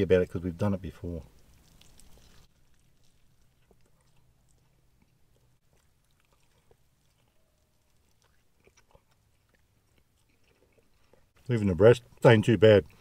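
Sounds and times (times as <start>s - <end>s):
chewing crispy food: 0.6s - 12.2s.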